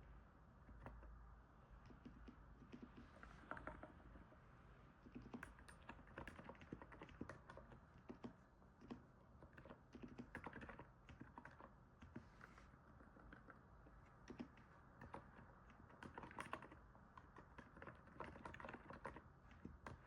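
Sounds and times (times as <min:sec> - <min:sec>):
soft keyboard typing: 0:00.6 - 0:04.2, 0:04.9 - 0:20.0.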